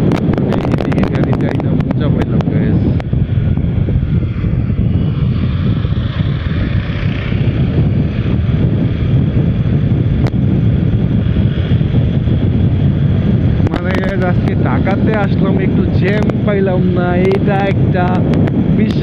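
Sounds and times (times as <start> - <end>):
motorcycle riding: 0.0 - 19.0
wind rumble on microphone: 0.0 - 19.0.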